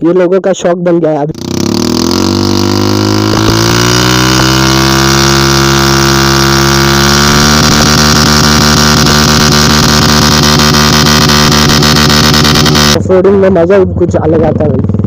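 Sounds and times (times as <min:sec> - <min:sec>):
motorcycle engine running: 0:01.4 - 0:15.0.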